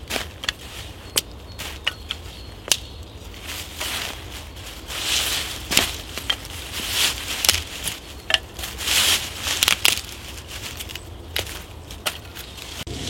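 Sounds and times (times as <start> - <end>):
crunching of dry forest litter: 0.0 - 13.0.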